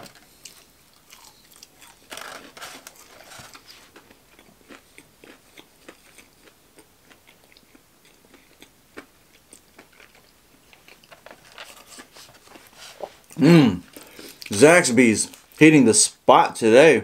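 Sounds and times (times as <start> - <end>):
person chewing crunchy food: 0.1 - 14.6.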